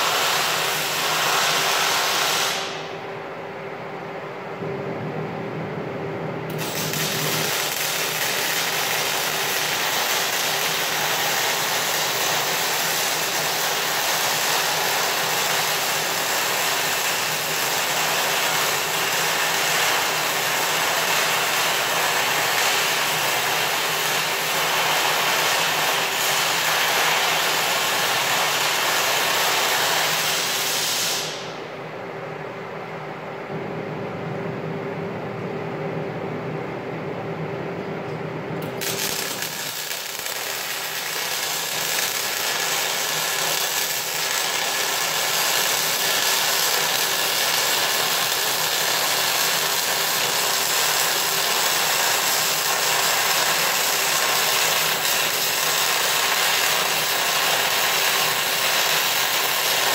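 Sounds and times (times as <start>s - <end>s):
welding arc hissing: 0.0s - 3.0s, 6.5s - 31.6s, 38.7s - 59.9s
steady hum: 0.0s - 59.9s.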